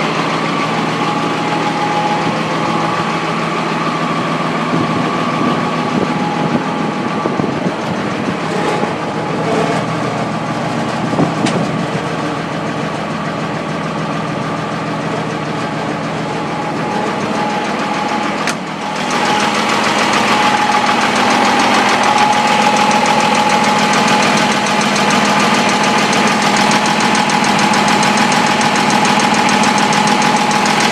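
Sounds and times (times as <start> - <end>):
diesel truck engine knocking: 0.0 - 30.9.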